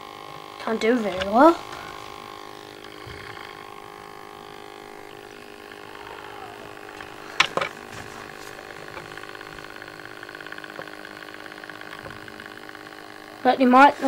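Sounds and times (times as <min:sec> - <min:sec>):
electric motor humming: 0:00.0 - 0:14.0
light regular ticking: 0:00.0 - 0:14.0.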